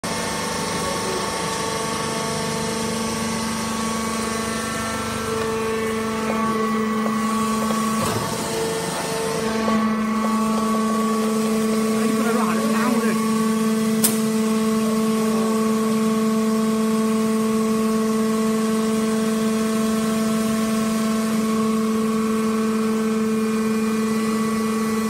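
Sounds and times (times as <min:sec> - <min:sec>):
baler motor and pump hum: 0:00.0 - 0:25.0.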